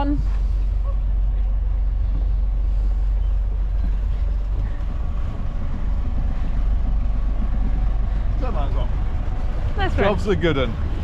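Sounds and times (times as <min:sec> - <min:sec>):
boat engines idling: 0:00.0 - 0:11.0.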